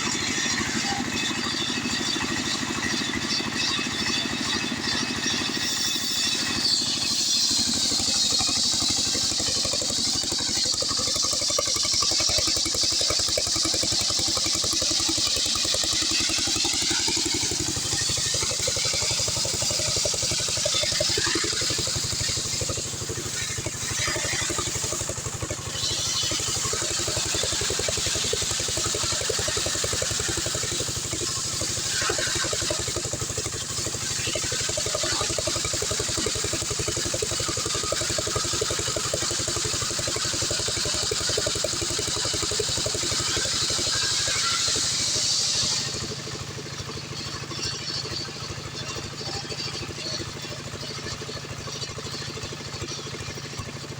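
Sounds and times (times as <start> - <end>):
chainsaw cutting through log: 0.0 - 53.9.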